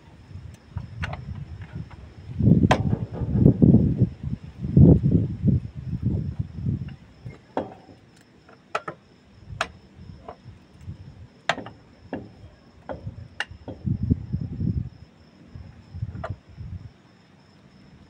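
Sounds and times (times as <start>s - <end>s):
low handling rumbles: 0.0s - 8.2s, 9.4s - 16.9s.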